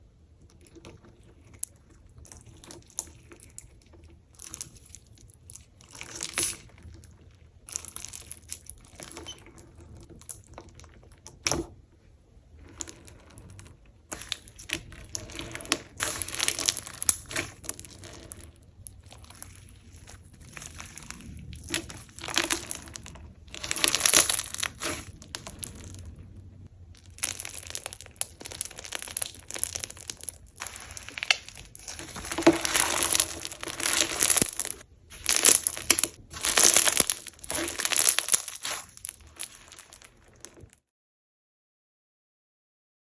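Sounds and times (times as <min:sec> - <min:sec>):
slime squishing by hand: 0:00.2 - 0:40.8.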